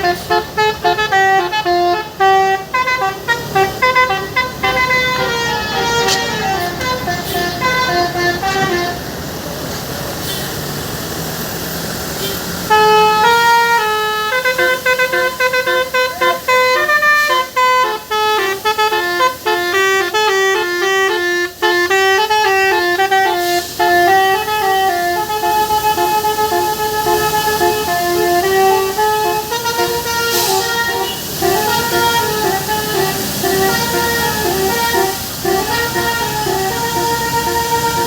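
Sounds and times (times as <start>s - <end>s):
multi-trumpet bus horn melody: 0.0s - 9.6s, 11.4s - 38.0s.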